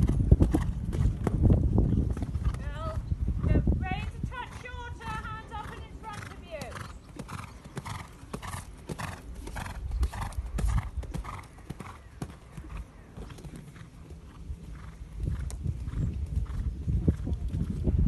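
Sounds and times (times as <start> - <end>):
hoofbeats on sand: 0.0 - 18.0.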